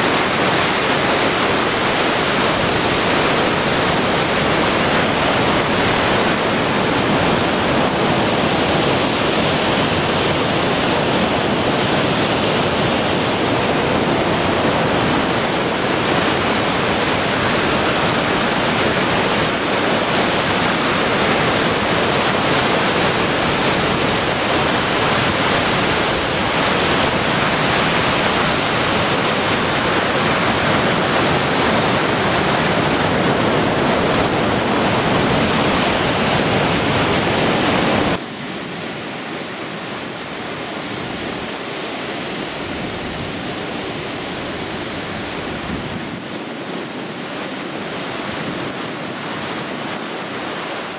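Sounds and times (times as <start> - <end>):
floodwater churning from sluice: 0.0 - 50.9.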